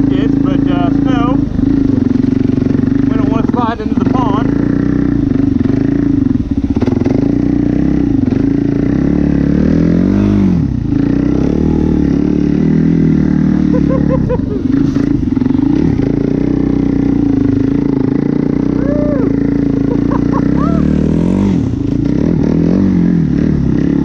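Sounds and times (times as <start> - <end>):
quad bike engine under throttle: 0.0 - 24.0.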